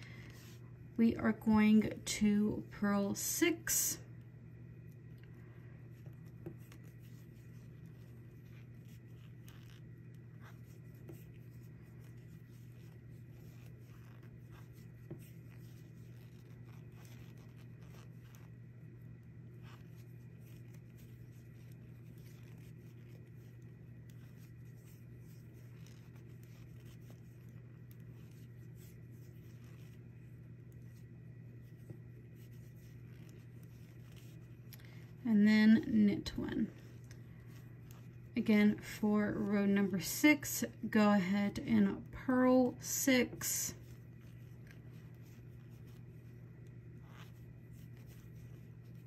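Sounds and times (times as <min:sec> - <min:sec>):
steady low hum: 0:00.0 - 0:49.0
yarn rubbing: 0:04.7 - 0:49.0.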